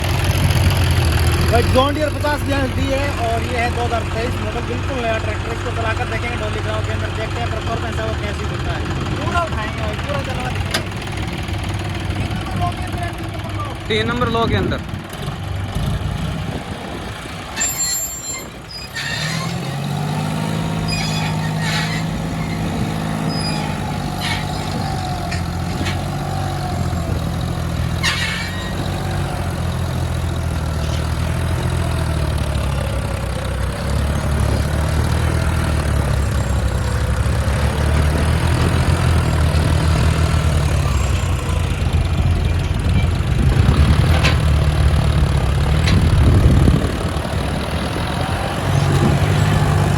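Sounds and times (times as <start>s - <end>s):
tractor diesel engine pulling: 0.0s - 49.9s.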